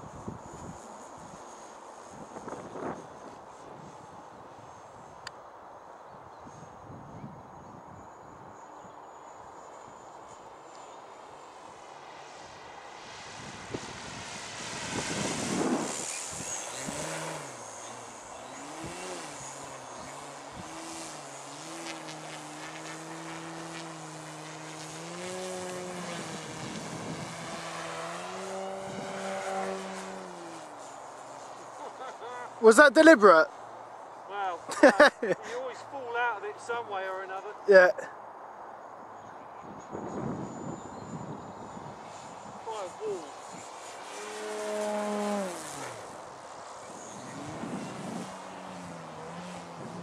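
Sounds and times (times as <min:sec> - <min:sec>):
model plane rushing pass: 0:00.0 - 0:05.3, 0:08.0 - 0:33.6, 0:39.6 - 0:50.0
propeller hum: 0:00.0 - 0:06.6, 0:08.6 - 0:38.2, 0:39.6 - 0:50.0.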